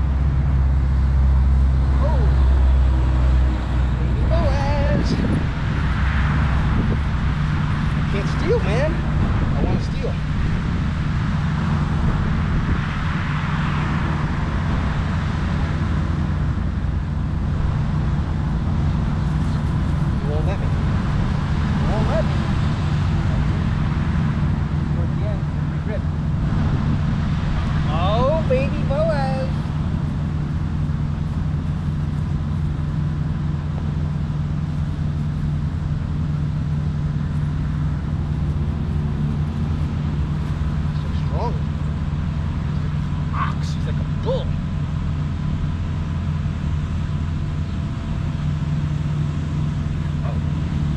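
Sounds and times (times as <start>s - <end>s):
road traffic rumble: 0.0s - 50.9s
vehicle passing tyre noise: 0.0s - 50.9s.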